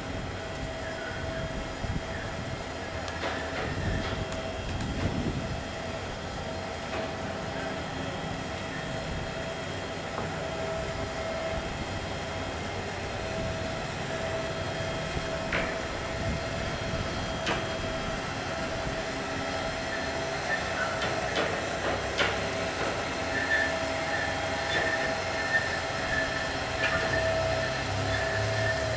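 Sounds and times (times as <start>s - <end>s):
hoist humming and whining: 0.0s - 28.9s.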